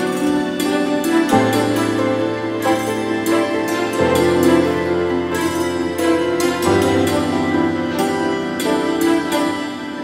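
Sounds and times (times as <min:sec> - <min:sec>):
slow soft background music: 0:00.0 - 0:10.0.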